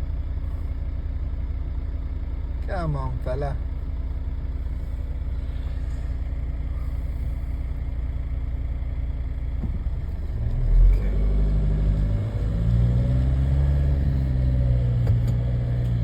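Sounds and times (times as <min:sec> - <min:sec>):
diesel car engine accelerating: 0:00.0 - 0:16.0.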